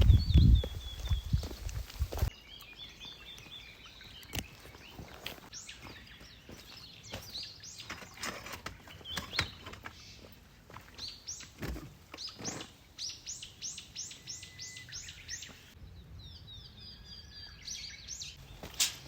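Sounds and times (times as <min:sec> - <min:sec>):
bird chirping: 0:00.0 - 0:18.8.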